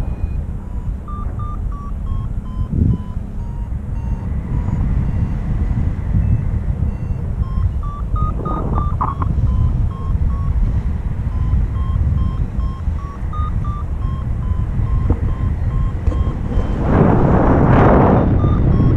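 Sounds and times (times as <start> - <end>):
variometer beeping: 0.0 - 18.9
wind buffeting on microphone: 0.0 - 18.9.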